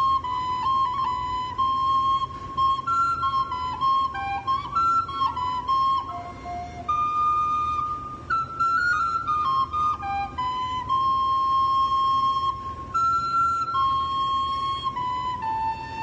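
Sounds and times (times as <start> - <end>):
wooden flute melody: 0.0 - 16.0.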